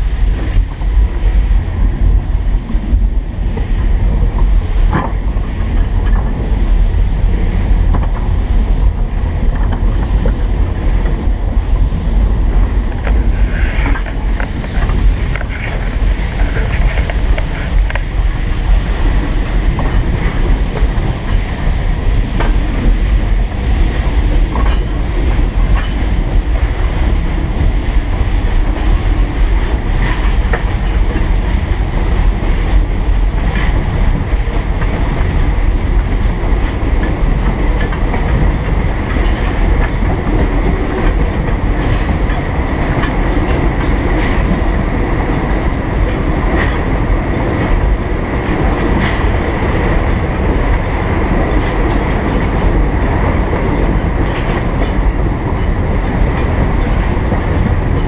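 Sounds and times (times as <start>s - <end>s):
steam train rumbling on track: 0.0s - 58.0s
light rail clicks: 0.4s - 58.0s.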